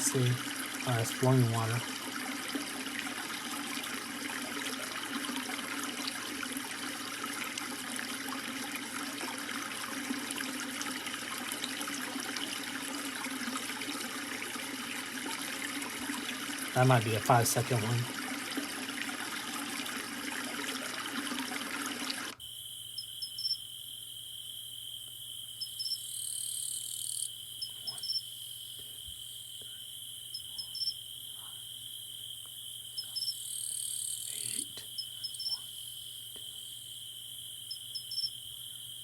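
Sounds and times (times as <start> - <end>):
recorded crickets trilling: 0.0 - 21.5, 22.2 - 39.0
recorded flowing water: 0.0 - 39.0.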